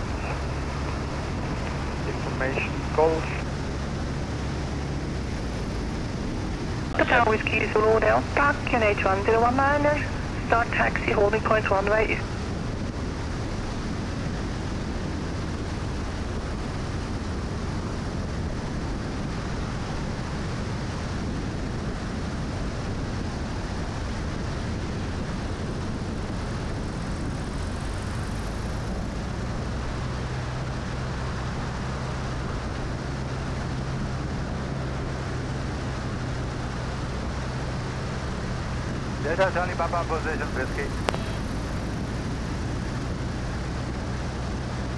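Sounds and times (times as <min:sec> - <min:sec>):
aircraft engine and propeller drone: 0:00.0 - 0:44.9
low steady hum: 0:00.0 - 0:44.9
wind rush: 0:00.0 - 0:44.9.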